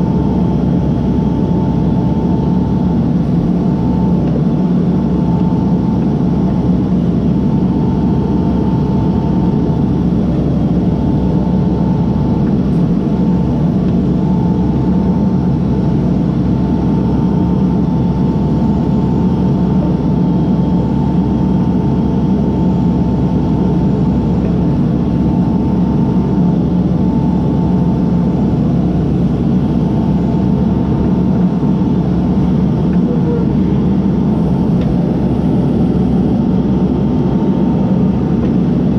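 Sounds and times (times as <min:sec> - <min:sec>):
diesel engine running: 0:00.0 - 0:38.9
high whine: 0:00.0 - 0:38.9.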